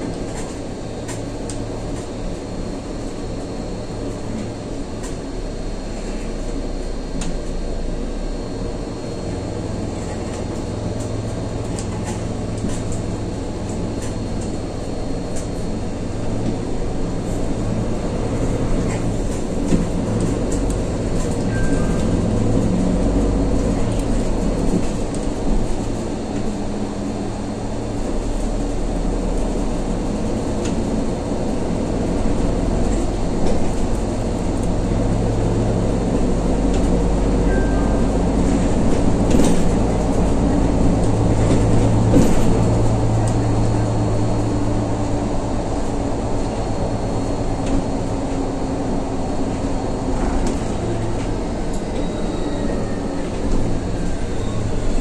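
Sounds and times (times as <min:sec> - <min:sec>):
bus engine drone: 0:00.0 - 0:55.0
road rumble: 0:00.0 - 0:55.0.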